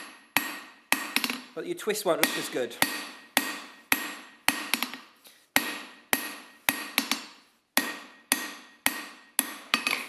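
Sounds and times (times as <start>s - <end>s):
hammer striking steel on anvil: 0.0s - 1.6s, 2.2s - 10.0s.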